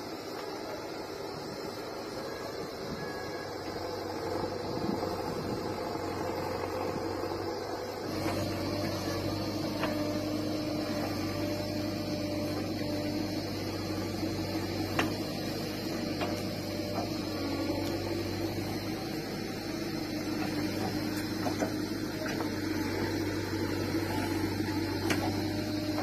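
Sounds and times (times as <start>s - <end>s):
diesel engine running: 0.0s - 26.0s
backhoe digging soil: 4.0s - 26.0s.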